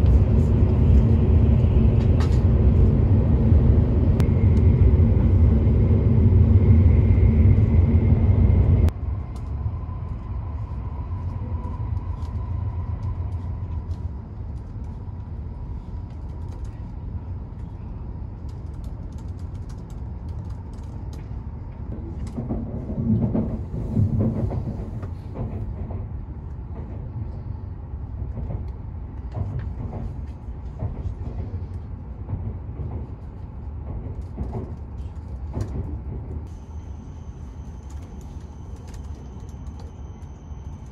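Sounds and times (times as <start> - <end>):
train cabin low rumble: 0.0 - 40.9.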